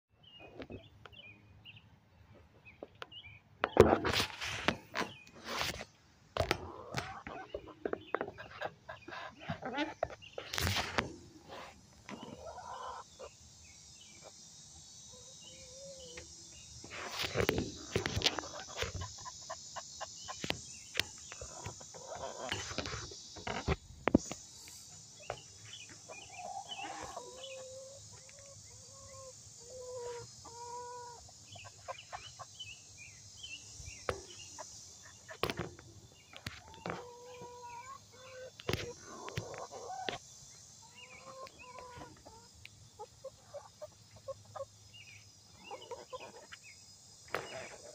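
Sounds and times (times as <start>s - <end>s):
hens clucking: 3.6s - 13.4s, 15.1s - 33.0s, 34.0s - 46.6s, 47.3s - 47.9s.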